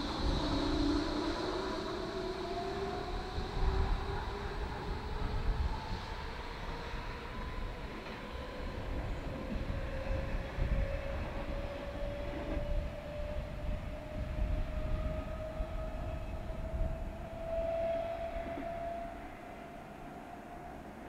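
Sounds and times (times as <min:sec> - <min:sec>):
electric train motor whine: 0:00.0 - 0:21.0.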